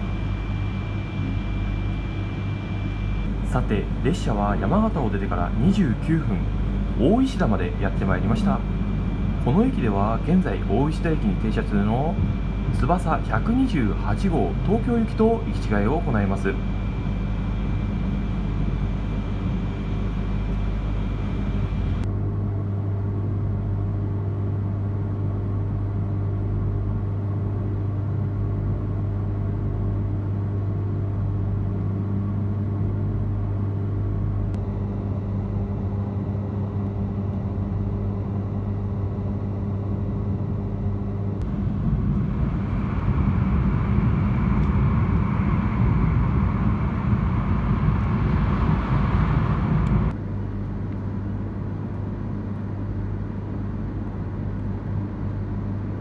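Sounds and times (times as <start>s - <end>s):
train electric hum: 0.0s - 56.0s.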